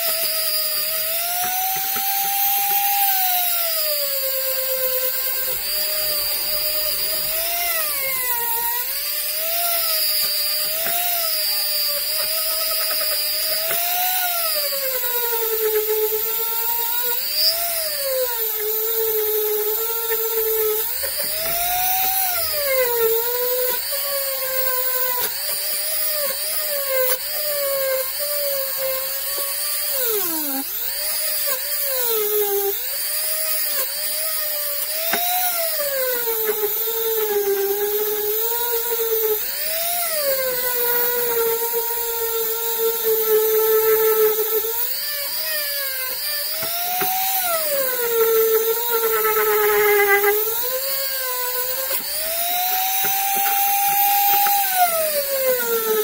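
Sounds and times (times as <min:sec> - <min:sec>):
rotary tool motor whining: 0:00.0 - 0:56.0.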